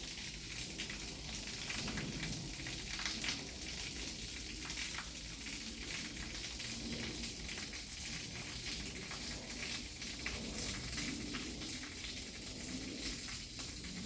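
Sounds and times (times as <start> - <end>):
waterfall pouring: 0.0 - 14.0.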